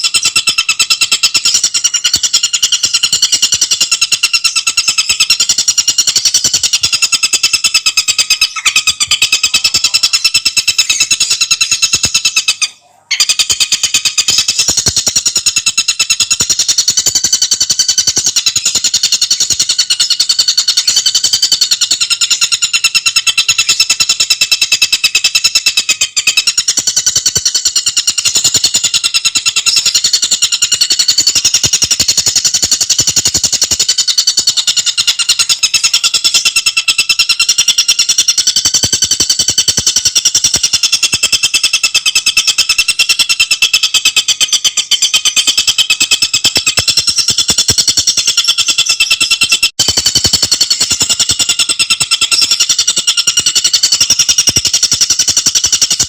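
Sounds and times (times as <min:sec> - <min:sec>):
bird singing fast chatter: 0:00.0 - 0:56.0.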